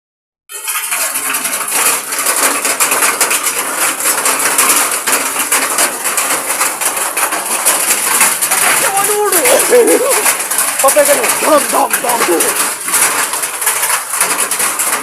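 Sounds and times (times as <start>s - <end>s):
hailstones clattering: 0.5s - 15.0s
heavy rain downpour: 0.5s - 15.0s.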